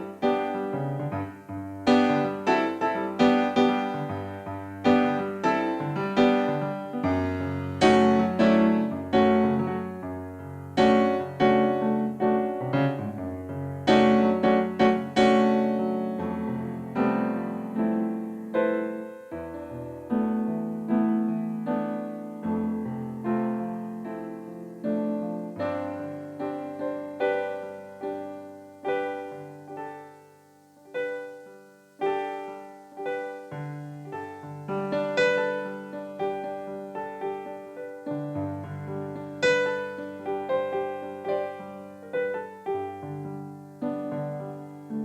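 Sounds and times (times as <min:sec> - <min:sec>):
keyboard chords: 0:00.0 - 0:45.0.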